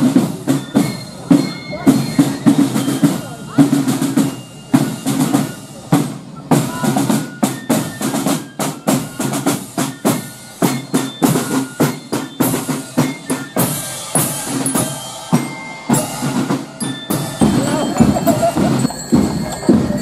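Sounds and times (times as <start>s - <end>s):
side drums marching rhythm: 0.0s - 20.0s.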